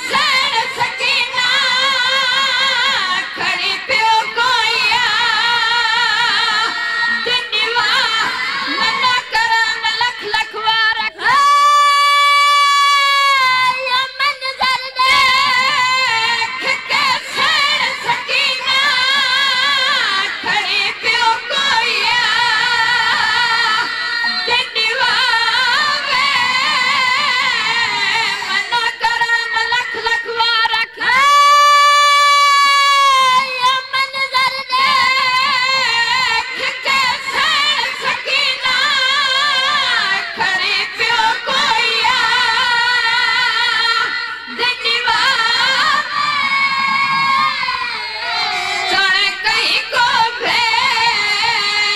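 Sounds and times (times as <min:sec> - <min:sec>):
boys singing a lamentation chant: 0:00.0 - 0:51.9.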